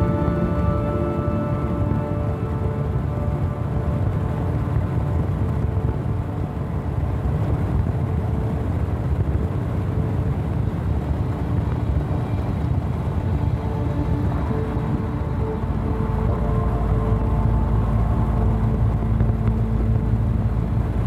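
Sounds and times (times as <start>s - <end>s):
car interior road rumble: 0.0s - 21.0s.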